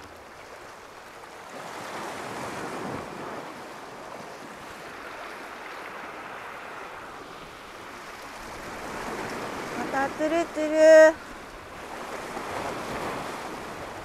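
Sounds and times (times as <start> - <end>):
sea waves washing against rocks: 0.0 - 14.0.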